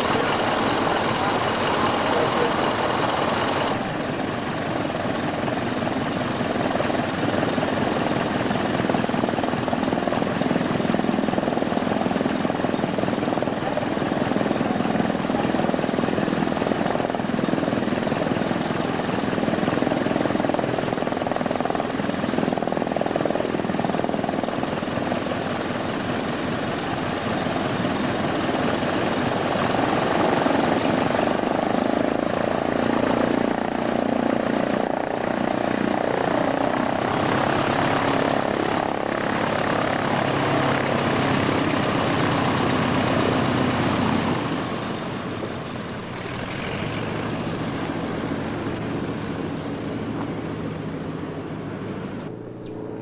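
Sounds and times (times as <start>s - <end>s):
biplane engine and propeller: 0.0s - 53.0s.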